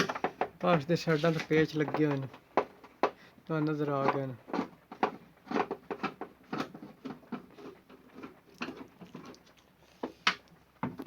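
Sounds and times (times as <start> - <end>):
hands handling plastic casing: 0.0 - 9.4.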